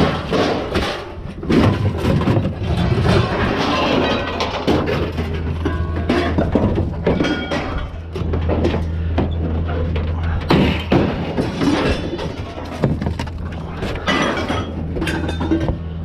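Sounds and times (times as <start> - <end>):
knocks and rattles: 0.0 - 16.0
truck engine and road drone: 0.0 - 16.0.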